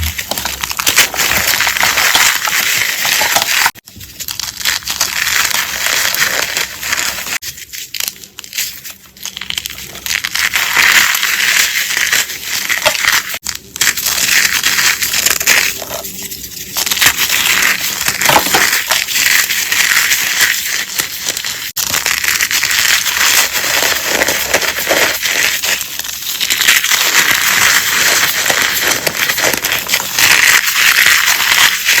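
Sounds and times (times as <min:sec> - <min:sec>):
chalk crunching by hand: 0:00.0 - 0:32.0.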